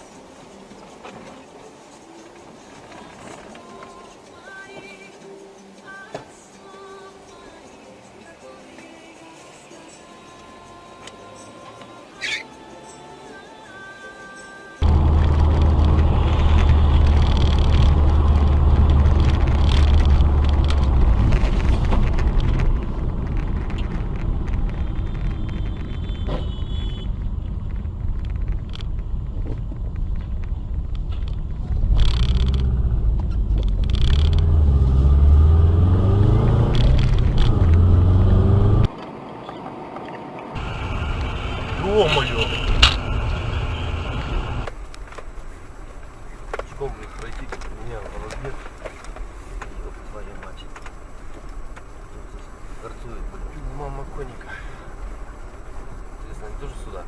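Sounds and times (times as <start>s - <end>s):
car engine and road noise: 0.0s - 6.6s, 9.5s - 12.8s, 14.8s - 57.0s.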